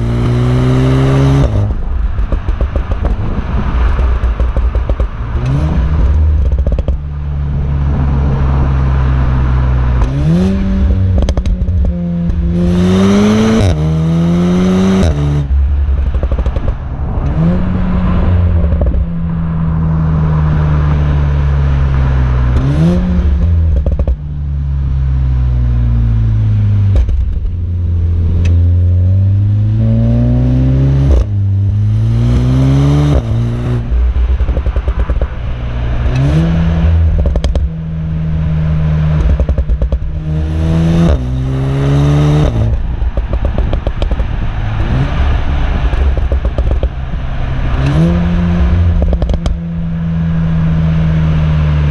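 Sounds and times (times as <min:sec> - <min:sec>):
car engine revving: 0:00.0 - 0:51.9
exhaust crackles: 0:00.0 - 0:51.9.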